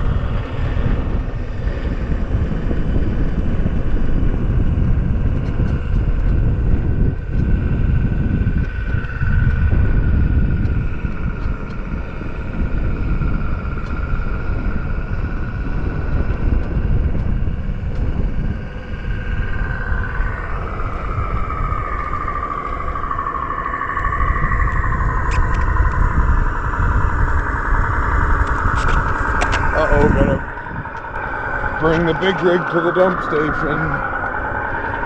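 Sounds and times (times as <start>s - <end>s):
low rumble: 0.0s - 35.0s
synthetic truck engine drone: 0.0s - 35.0s.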